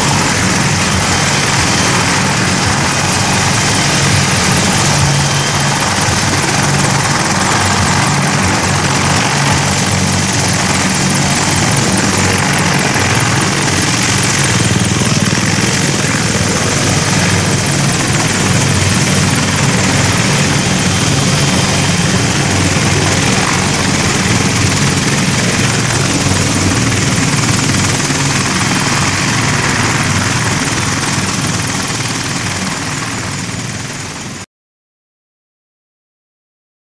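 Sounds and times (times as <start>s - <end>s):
helicopter rotor beat: 0.0s - 34.4s
high turbine whine: 0.0s - 34.4s.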